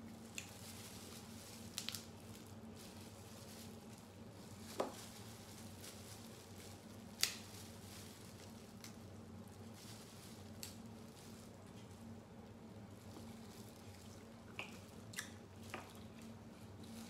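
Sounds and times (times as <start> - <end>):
faint steady hum: 0.0 - 17.0
soft squishing and crinkling: 0.0 - 17.0.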